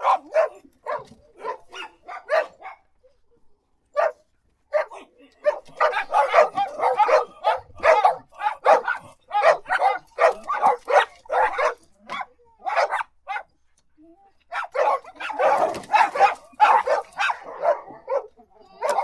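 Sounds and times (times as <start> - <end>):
dogs barking: 0.0 - 3.0, 4.0 - 13.5, 14.5 - 19.0.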